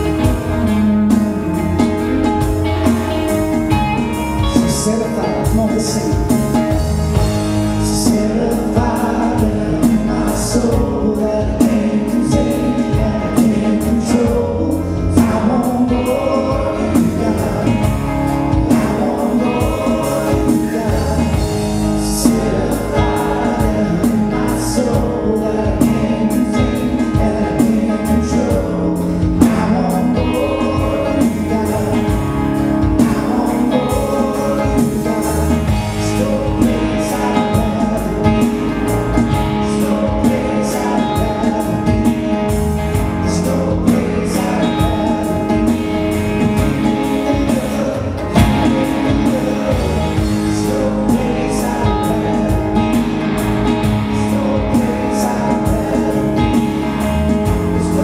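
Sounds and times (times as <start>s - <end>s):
bass guitar: 0.0s - 58.0s
drum kit: 0.0s - 58.0s
guitars: 0.0s - 58.0s
men singing: 0.0s - 58.0s.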